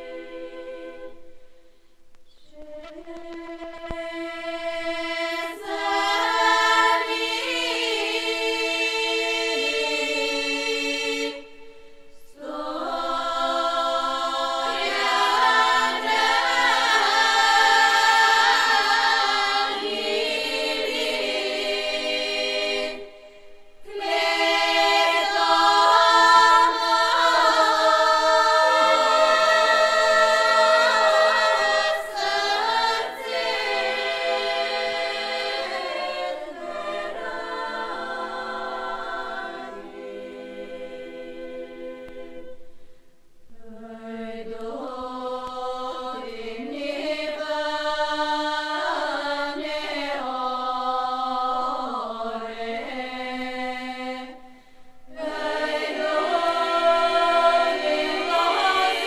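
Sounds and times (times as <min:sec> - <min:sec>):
folk choir singing: 0:00.0 - 0:59.0.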